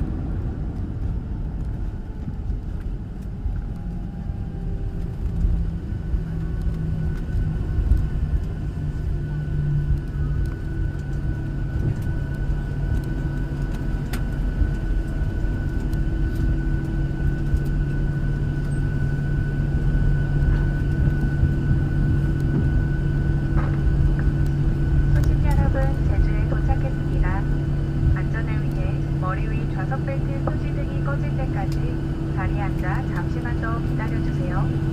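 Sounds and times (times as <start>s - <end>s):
engine rumble and hum: 0.0s - 34.9s.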